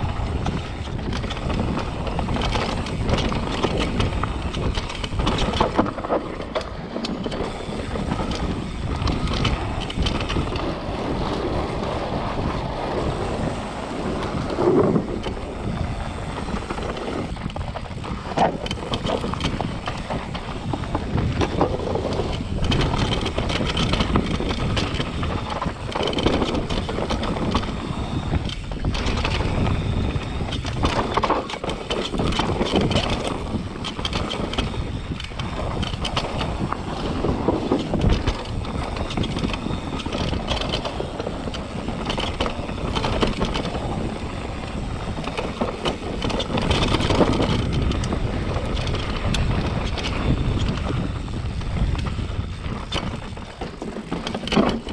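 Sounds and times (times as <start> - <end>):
bike knocks and rattles: 0.0 - 54.9
bike tyre rumble on dirt: 0.0 - 54.9
wind buffeting microphone: 0.0 - 54.9.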